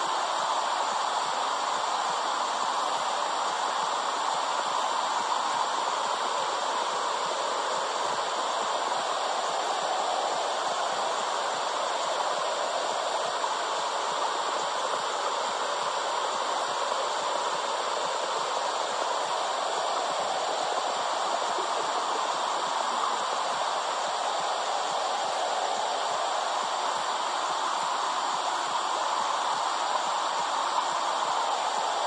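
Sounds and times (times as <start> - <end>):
steady whooshing hiss: 0.0 - 32.0.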